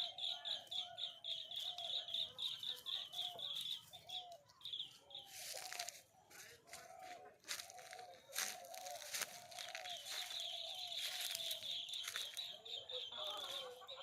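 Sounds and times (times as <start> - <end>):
chickens chirping: 0.0 - 14.0.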